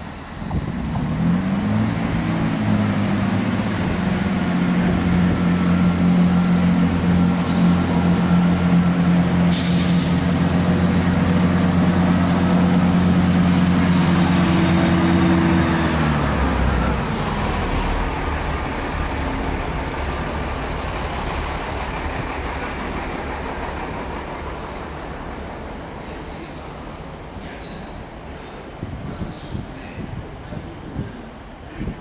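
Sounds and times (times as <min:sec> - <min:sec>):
train hum with several pitches: 0:00.0 - 0:32.0
train rumbling: 0:00.0 - 0:32.0.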